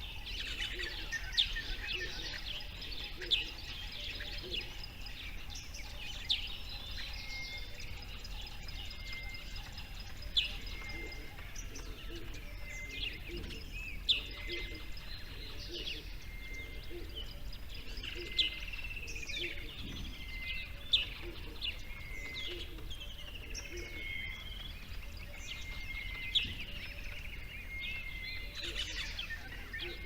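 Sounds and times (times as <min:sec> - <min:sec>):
birds chirping and calling: 0:00.0 - 0:30.0.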